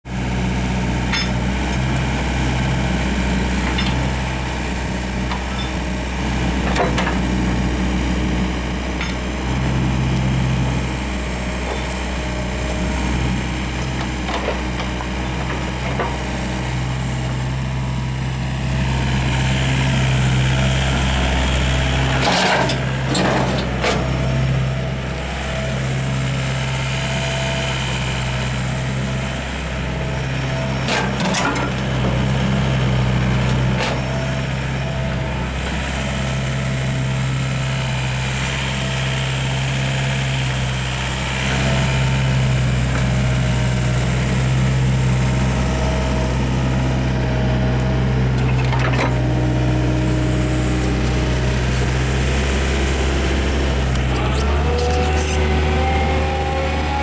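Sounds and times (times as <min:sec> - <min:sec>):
excavator diesel engine running: 0:00.1 - 0:57.0.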